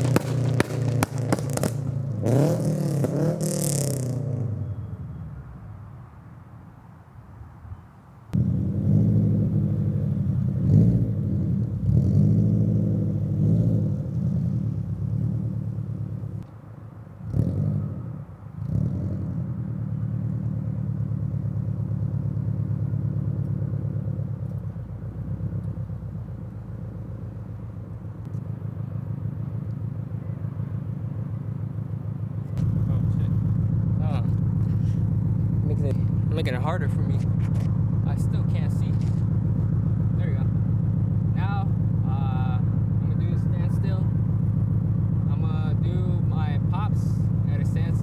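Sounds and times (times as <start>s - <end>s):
car engine revving: 0.0s - 4.8s, 8.4s - 16.5s, 17.2s - 48.0s.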